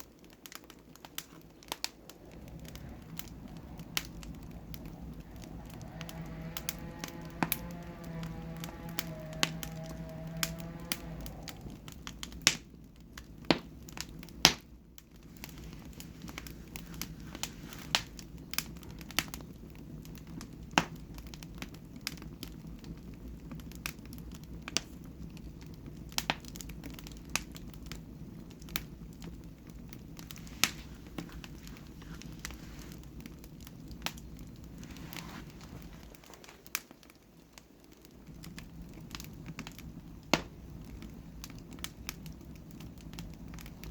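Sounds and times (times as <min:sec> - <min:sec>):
low steady rumble: 0:00.0 - 0:43.9
sharp pops of fire: 0:00.0 - 0:43.9
wood fire crackling: 0:00.0 - 0:43.9.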